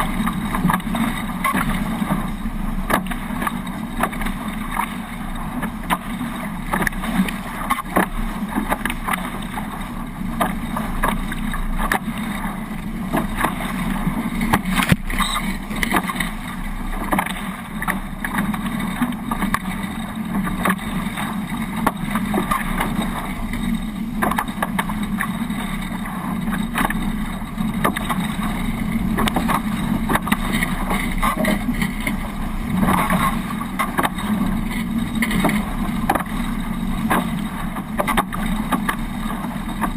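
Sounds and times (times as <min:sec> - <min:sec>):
rush of wind and water: 0:00.0 - 0:39.9.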